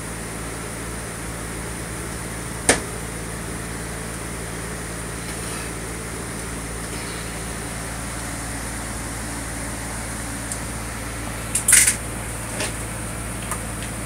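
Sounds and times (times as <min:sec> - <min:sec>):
background machine hum: 0:00.0 - 0:14.0.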